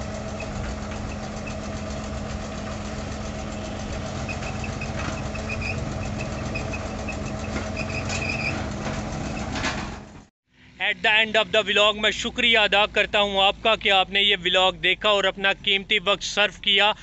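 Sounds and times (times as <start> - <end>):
road roller engine running: 0.0 - 17.0.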